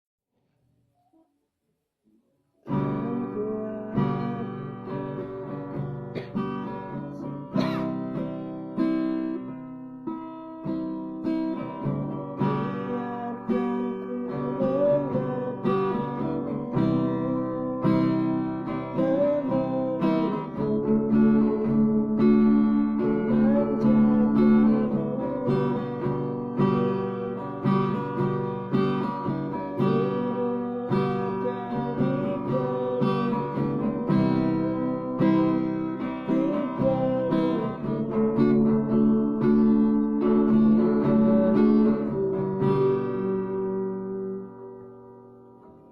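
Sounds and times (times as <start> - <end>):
acoustic guitar strummed and picked: 2.6 - 45.9.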